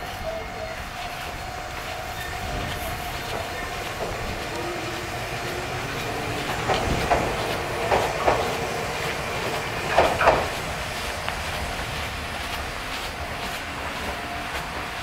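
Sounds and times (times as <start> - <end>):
electric train running: 0.0 - 15.0
wheels clacking over rail joints: 0.0 - 15.0.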